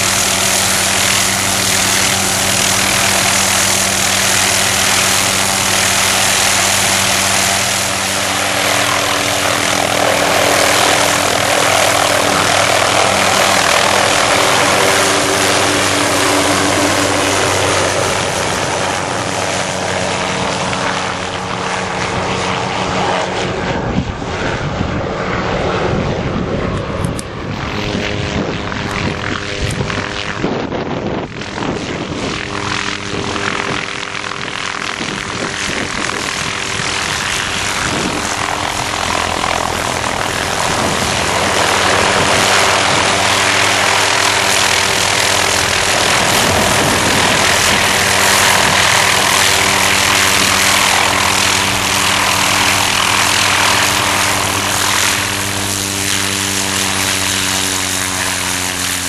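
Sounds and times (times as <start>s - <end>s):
helicopter turbine whine and rotor: 0.0s - 59.0s.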